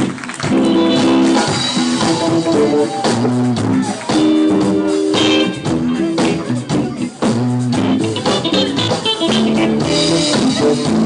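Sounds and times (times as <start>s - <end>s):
bass guitar: 0.0s - 11.0s
drum kit: 0.0s - 11.0s
guitar chords: 0.0s - 11.0s.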